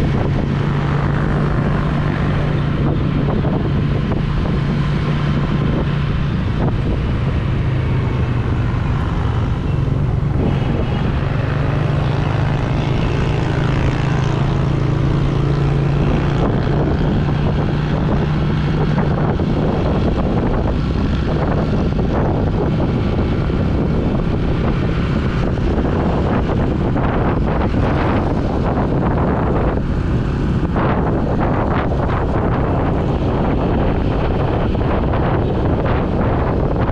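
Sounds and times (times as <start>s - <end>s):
motorcycle engine cruising: 0.0s - 36.9s
wind rushing over microphone: 0.0s - 36.9s.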